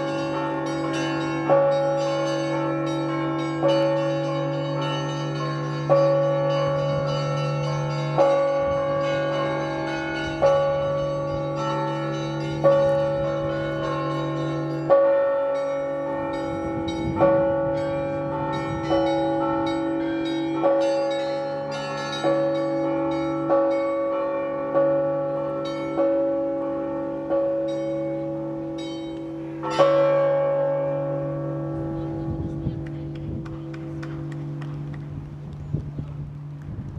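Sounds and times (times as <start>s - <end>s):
heavy church bell strikes: 0.0s - 36.9s.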